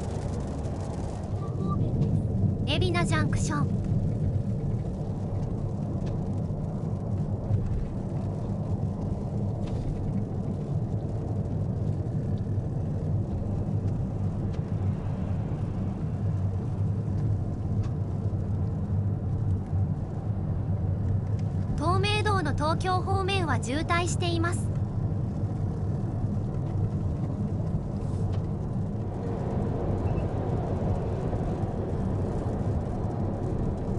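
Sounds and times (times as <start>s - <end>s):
road rumble inside car: 0.0s - 33.9s.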